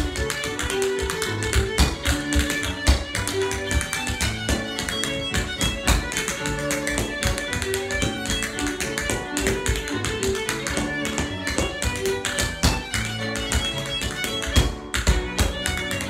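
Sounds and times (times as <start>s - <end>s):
dance shoes tapping on hard floor: 0.0s - 16.0s
fiddle tune: 0.0s - 16.0s.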